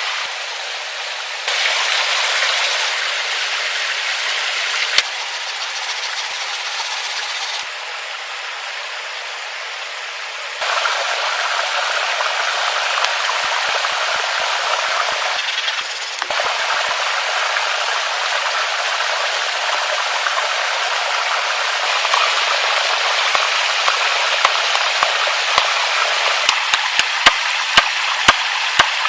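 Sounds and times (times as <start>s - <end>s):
stream water rushing over rocks: 0.0s - 8.9s, 10.6s - 29.0s.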